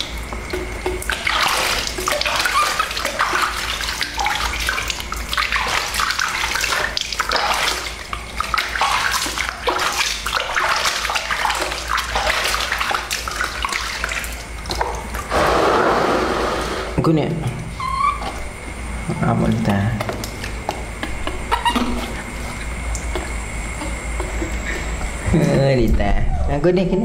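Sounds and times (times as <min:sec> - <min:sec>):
water splashing in a basin: 0:00.0 - 0:15.3, 0:17.5 - 0:25.2.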